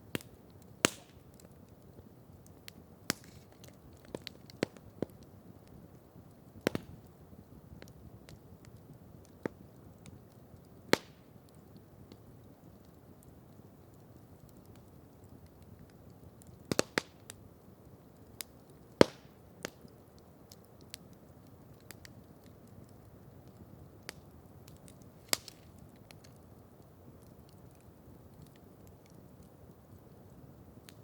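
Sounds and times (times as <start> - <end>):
campfire crackling and popping: 0.0 - 31.0
faint steady low hiss: 0.0 - 31.0.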